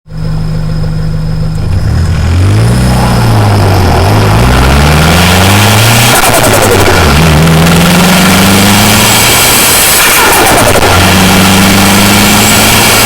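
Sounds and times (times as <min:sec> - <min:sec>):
turbocharged car engine revving: 0:00.1 - 0:13.0.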